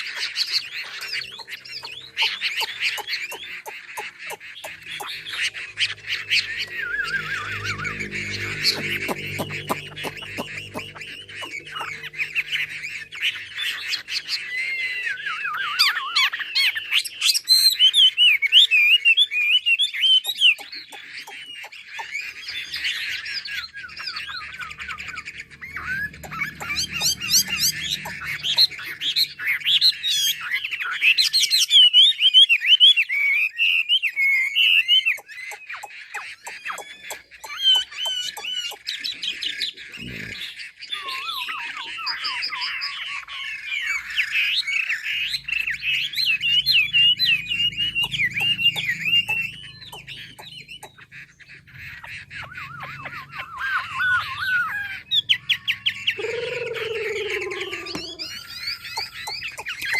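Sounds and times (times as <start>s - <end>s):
laughingthrush singing: 0.0s - 59.9s.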